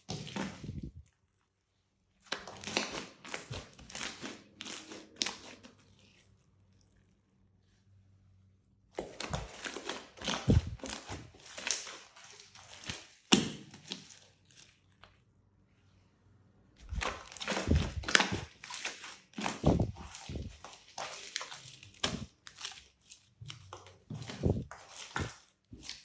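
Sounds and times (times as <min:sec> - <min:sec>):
slime squelching by hand: 0:00.0 - 0:16.1, 0:16.8 - 0:26.0.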